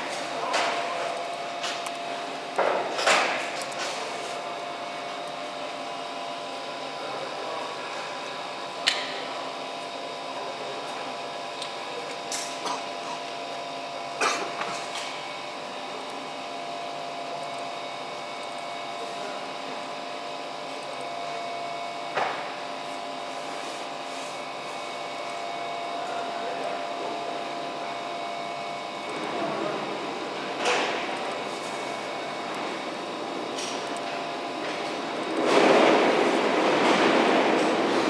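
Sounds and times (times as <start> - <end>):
workshop machinery humming: 0.0 - 38.0.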